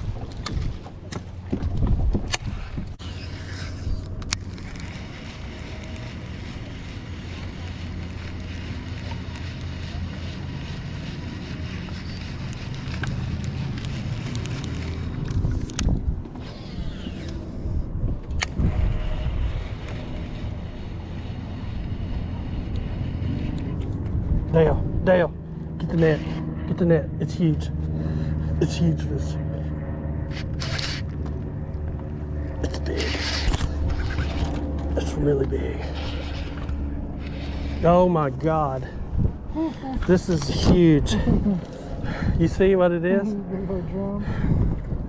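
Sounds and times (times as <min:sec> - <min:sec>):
wind buffeting microphone: 0:00.0 - 0:26.6, 0:33.3 - 0:45.0
steady low hum: 0:00.0 - 0:45.0.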